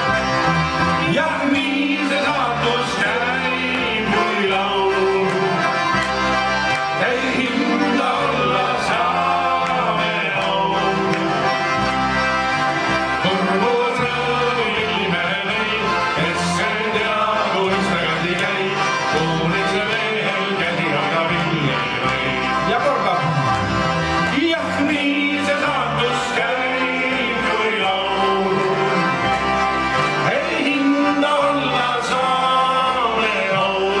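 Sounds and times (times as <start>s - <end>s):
button accordions playing folk tune: 0.0s - 34.0s
guitar: 0.0s - 34.0s
man singing: 1.0s - 5.7s, 7.0s - 11.5s, 13.2s - 23.5s, 24.3s - 29.2s, 30.2s - 34.0s.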